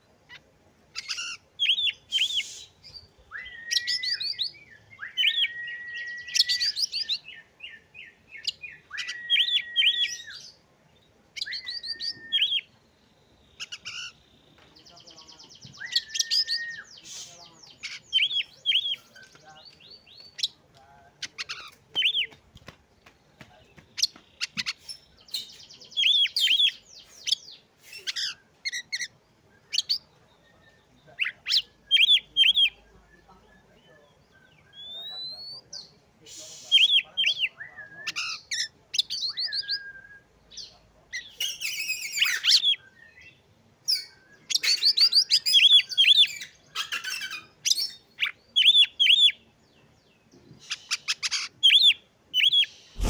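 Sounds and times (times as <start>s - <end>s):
bird singing: 0.0s - 22.4s, 23.0s - 36.0s, 36.8s - 53.0s.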